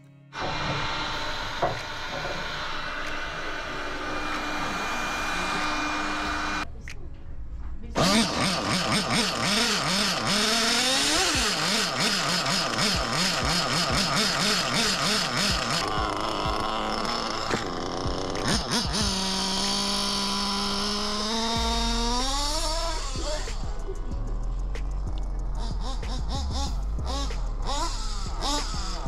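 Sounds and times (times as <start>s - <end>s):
small nitro engine revving: 0.4s - 6.6s, 8.0s - 23.8s, 25.6s - 29.0s.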